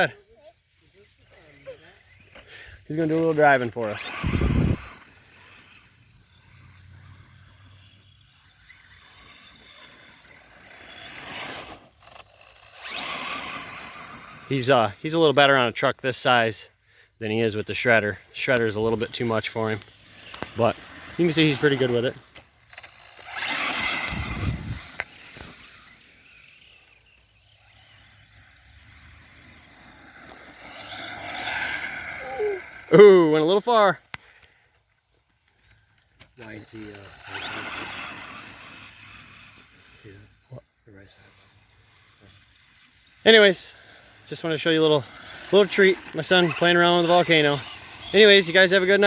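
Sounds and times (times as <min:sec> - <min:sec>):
electric toy truck driving: 0:00.0 - 0:49.0.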